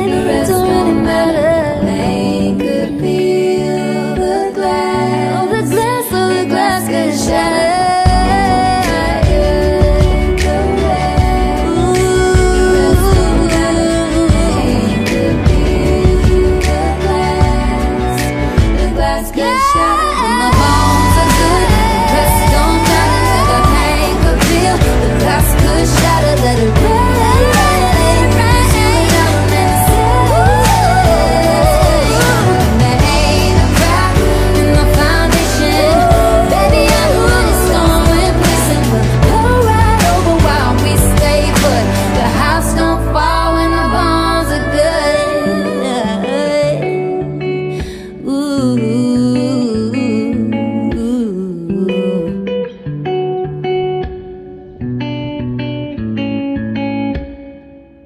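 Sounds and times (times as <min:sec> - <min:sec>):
background pop song: 0:00.0 - 0:58.0
electric guitar picking notes and chords: 0:00.0 - 0:58.0.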